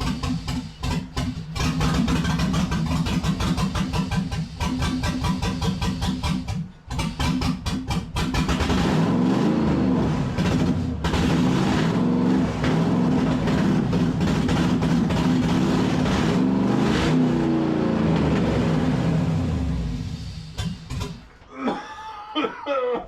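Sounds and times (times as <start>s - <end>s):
engine running rough: 0.0s - 21.4s.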